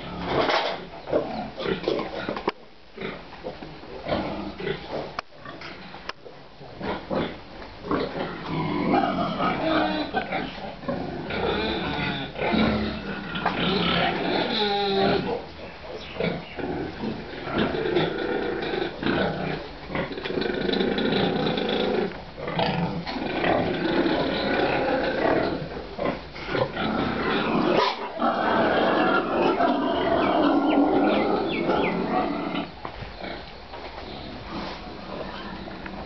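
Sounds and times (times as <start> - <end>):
pigs grunting and squealing: 6.7 - 36.0.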